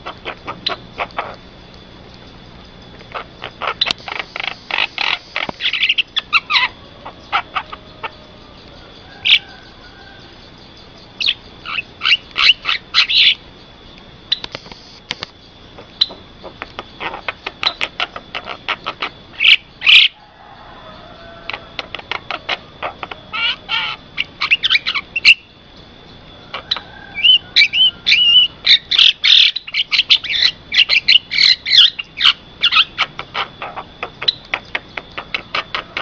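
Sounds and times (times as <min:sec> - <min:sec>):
myna bird chattering calls: 0:00.0 - 0:01.5, 0:03.0 - 0:13.4, 0:14.3 - 0:20.2, 0:21.2 - 0:36.0.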